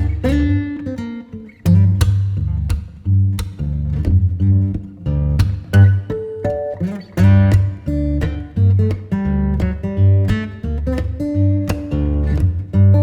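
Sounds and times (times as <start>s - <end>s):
bass line: 0.0s - 0.8s, 1.6s - 6.2s, 7.2s - 13.0s
acoustic guitar strumming: 0.0s - 13.0s.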